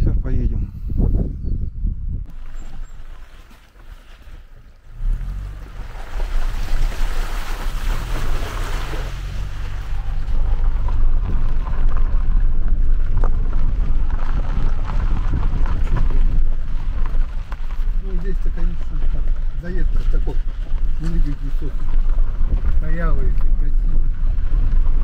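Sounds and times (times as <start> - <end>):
vehicle engine rumbling: 0.0 - 25.0
wind noise on microphone: 0.0 - 25.0.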